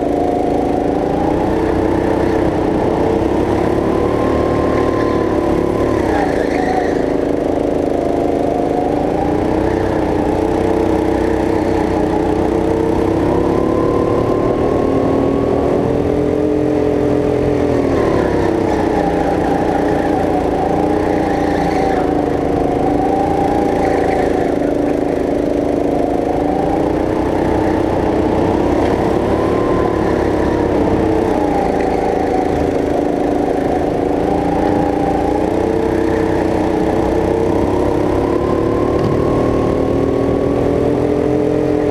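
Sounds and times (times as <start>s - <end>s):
go-kart engine revving: 0.0s - 41.9s.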